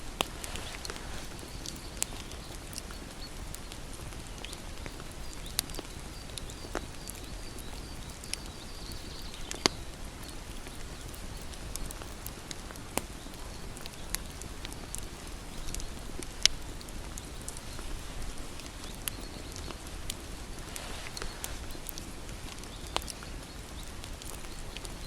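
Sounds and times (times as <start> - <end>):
bonfire crackling and popping: 0.0 - 25.0
low fire rumble: 0.0 - 25.0
faint high chirping: 0.1 - 25.0.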